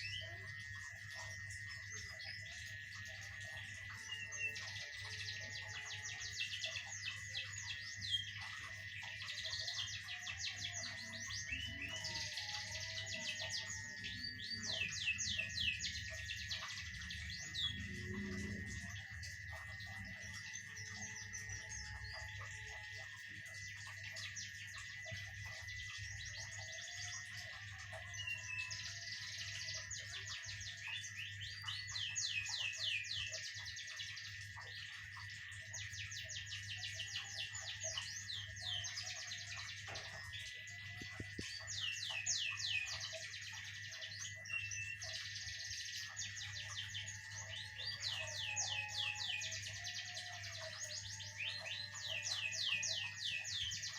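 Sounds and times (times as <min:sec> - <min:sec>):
songbird singing: 0:00.0 - 0:53.9
steady high-pitched tone: 0:00.0 - 0:53.9.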